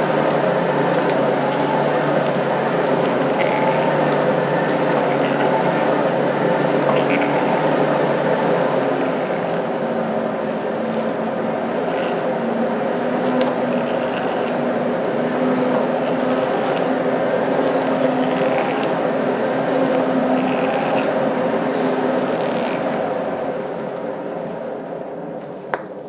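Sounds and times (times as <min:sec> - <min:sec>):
forge blower air rush: 0:00.0 - 0:26.0.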